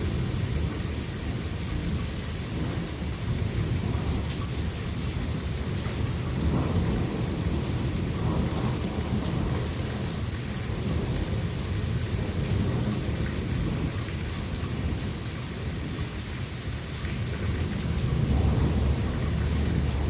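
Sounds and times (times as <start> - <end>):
low rumble of thunder: 0.0 - 20.0
steady rain: 0.0 - 20.0.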